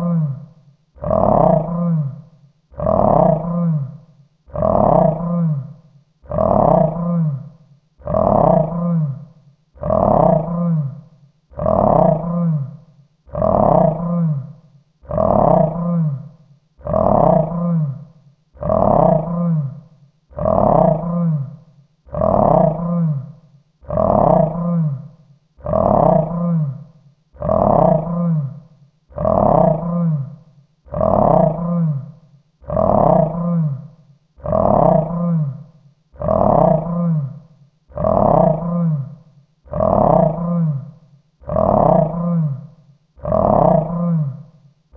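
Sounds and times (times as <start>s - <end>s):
deep beast growl: 0.0s - 44.6s.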